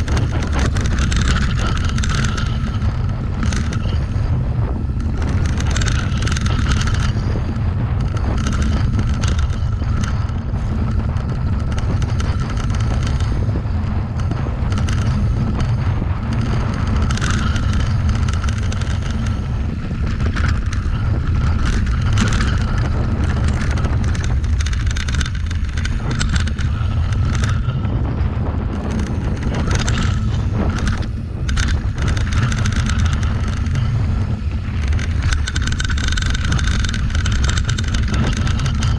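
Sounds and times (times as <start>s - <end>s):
bike rattling over bumps: 0.0s - 38.9s
tyres on dirt and gravel: 0.0s - 38.9s
wind buffeting microphone: 0.0s - 38.9s.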